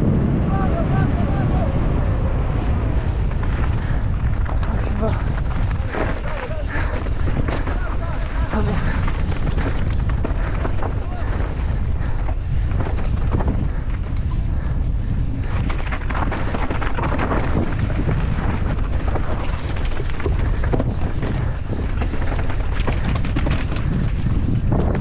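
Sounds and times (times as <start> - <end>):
wind buffeting microphone: 0.0 - 25.0
bike rattling over rough ground: 1.3 - 25.0.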